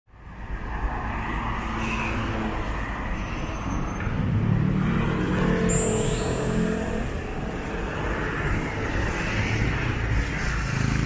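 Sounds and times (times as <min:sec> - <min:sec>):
cars and vans driving past: 0:00.1 - 0:11.0
vehicle engine: 0:01.2 - 0:11.0.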